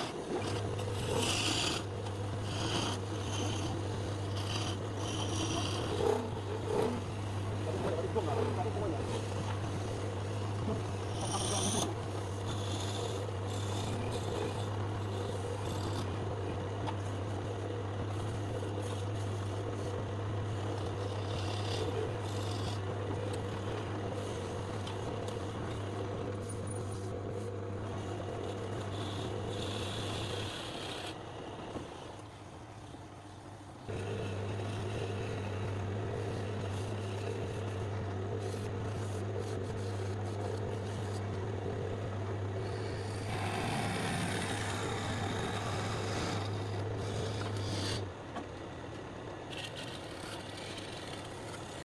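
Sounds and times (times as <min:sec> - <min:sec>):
woodworking machine humming: 0:00.0 - 0:51.9.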